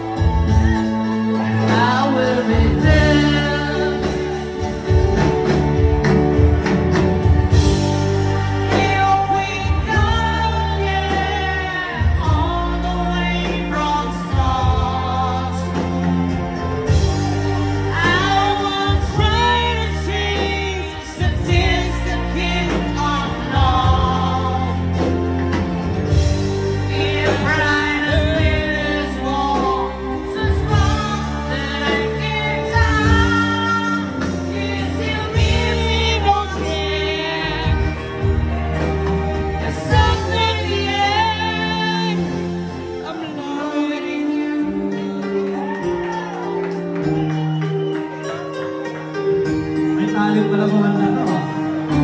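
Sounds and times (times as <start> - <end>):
lead singer singing: 0.0 - 48.3
live band playing: 0.0 - 52.0.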